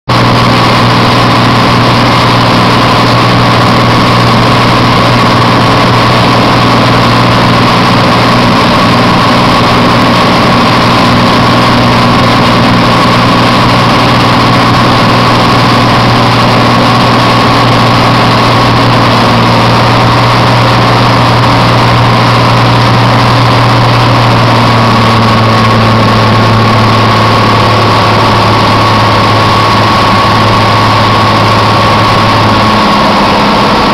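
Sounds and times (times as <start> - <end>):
light airplane engine drone: 0.1 - 33.9.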